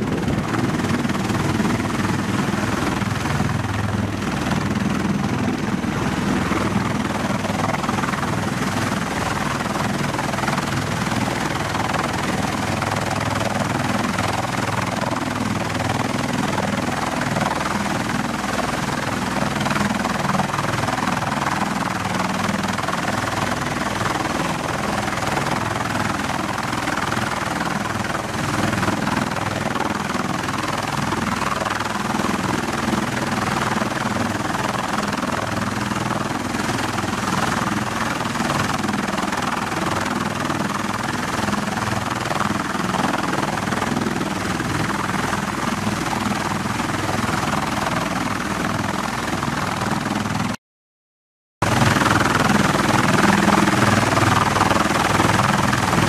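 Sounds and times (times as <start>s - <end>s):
tiltrotor aircraft engines running: 0.0s - 50.6s, 51.6s - 56.0s.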